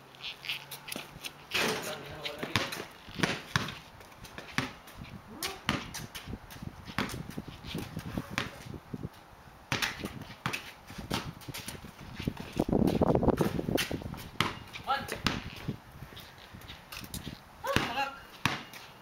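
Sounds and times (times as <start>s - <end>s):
sneakers scuffing: 0.2s - 8.8s, 9.7s - 19.0s
basketball bouncing on concrete: 0.9s - 8.8s, 9.7s - 15.8s, 16.6s - 18.9s.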